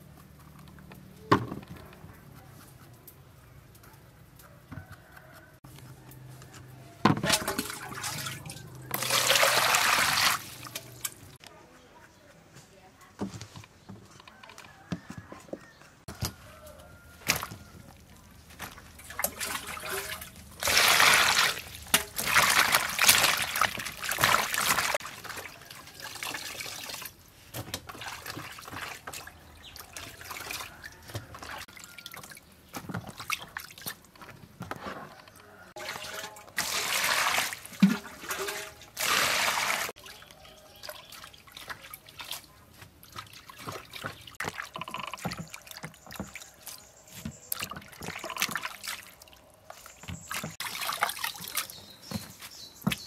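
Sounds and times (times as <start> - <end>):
water sloshing and splashing: 4.8 - 11.4, 16.1 - 53.0.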